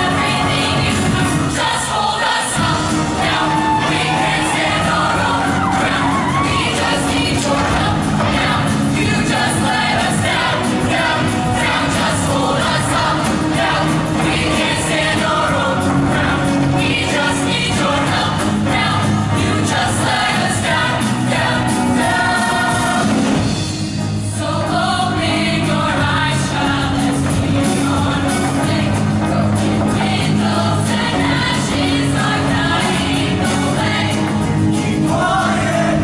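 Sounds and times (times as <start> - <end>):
choir singing: 0.0 - 23.5, 24.2 - 36.0.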